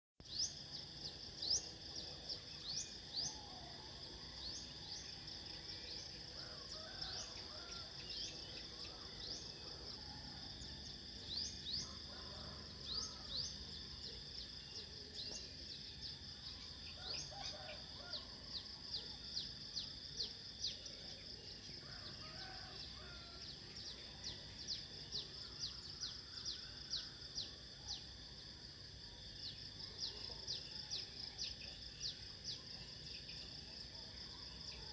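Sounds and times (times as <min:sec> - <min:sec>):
high insect drone: 0:00.2 - 0:34.9.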